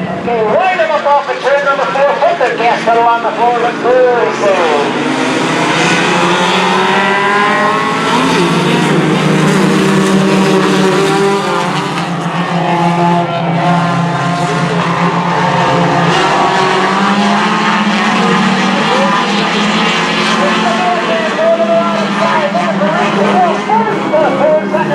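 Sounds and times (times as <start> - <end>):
race car engines passing: 0.0 - 24.9.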